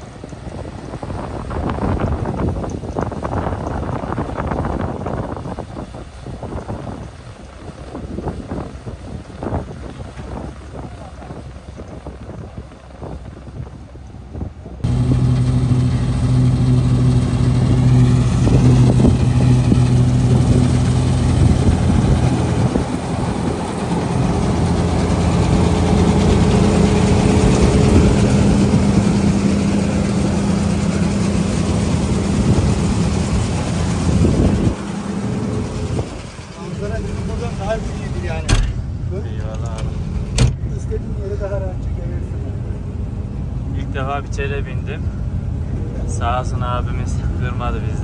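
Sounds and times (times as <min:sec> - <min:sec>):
combine harvester engine and machinery: 0:00.0 - 0:48.0.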